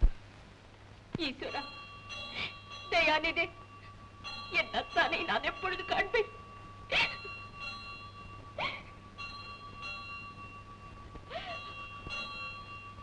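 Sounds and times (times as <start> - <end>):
low hum: 0.0 - 13.0
temple bell ringing: 1.3 - 13.0.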